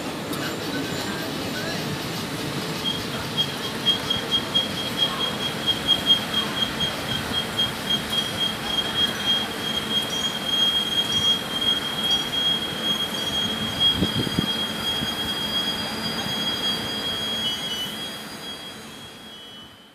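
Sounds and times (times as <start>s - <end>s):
train rumble: 0.0s - 19.9s
train wheels squealing: 0.3s - 19.9s.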